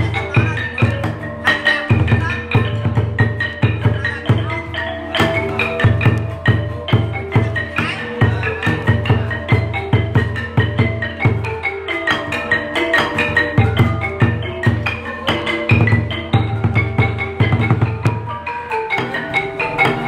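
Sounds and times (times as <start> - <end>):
deep barrel drum beats: 0.0 - 20.0
xylophone and gongs melody: 0.0 - 20.0.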